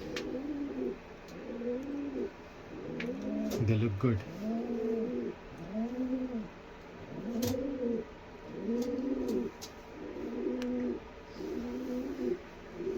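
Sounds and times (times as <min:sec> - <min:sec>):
pigeons cooing: 0:00.0 - 0:12.9.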